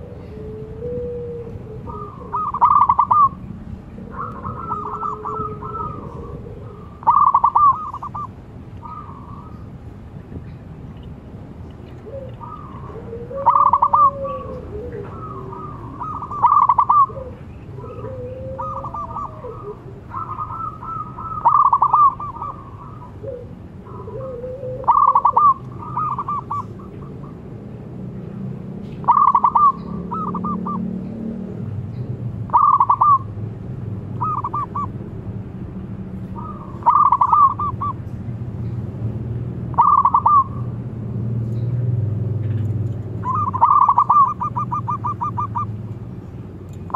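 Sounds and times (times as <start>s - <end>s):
doves cooing: 0.0s - 27.8s, 28.5s - 35.4s, 36.2s - 38.5s, 39.2s - 40.9s, 42.4s - 46.9s.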